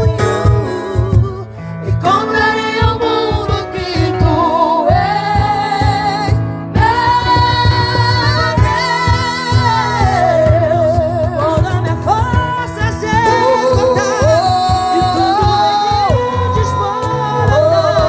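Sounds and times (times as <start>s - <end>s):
instrumental accompaniment: 0.0s - 18.0s
singers performing gospel song: 0.0s - 18.0s.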